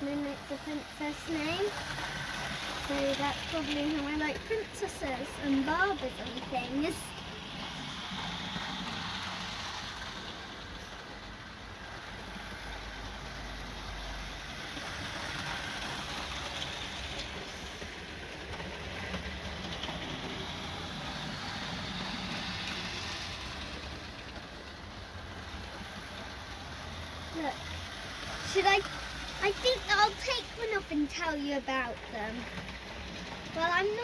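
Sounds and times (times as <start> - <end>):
model train motor whirr: 0.0 - 34.0
small wheels rumbling on rails: 0.0 - 34.0.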